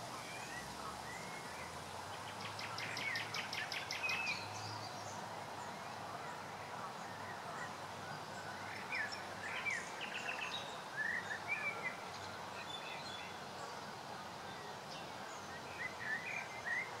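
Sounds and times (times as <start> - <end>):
background noise: 0.0 - 17.0.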